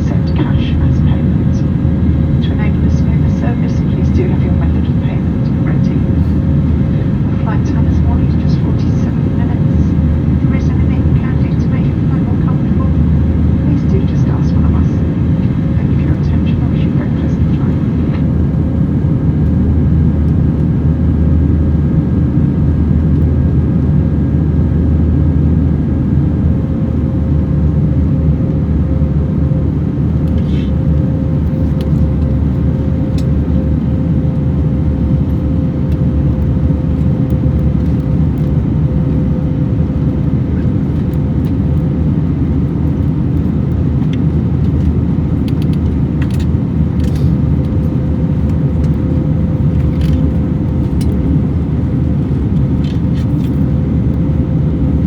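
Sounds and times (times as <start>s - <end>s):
aircraft cabin engine rumble: 0.0s - 55.0s
steady cabin hum: 0.0s - 55.0s.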